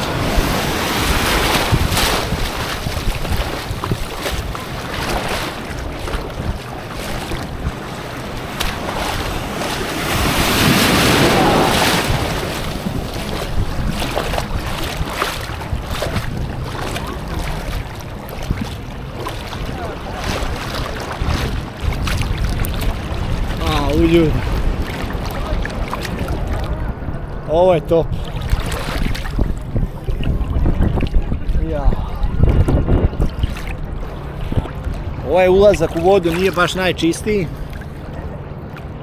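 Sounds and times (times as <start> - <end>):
sea waves splashing: 0.0 - 39.0
wind buffeting microphone: 0.0 - 39.0.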